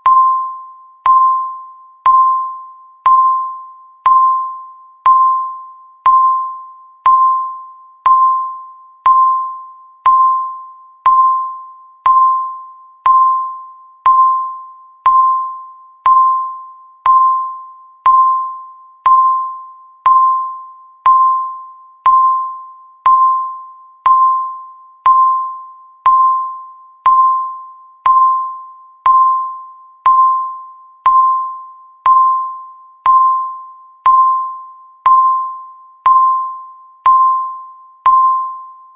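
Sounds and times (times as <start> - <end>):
high electronic timer ding: 0.0 - 38.9.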